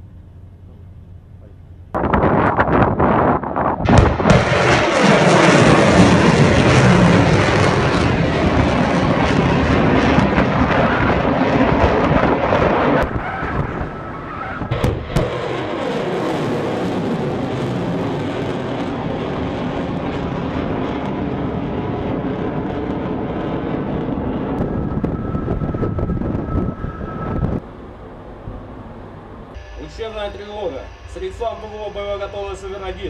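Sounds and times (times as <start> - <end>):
rocket motor rushing rumble: 0.0 - 28.7.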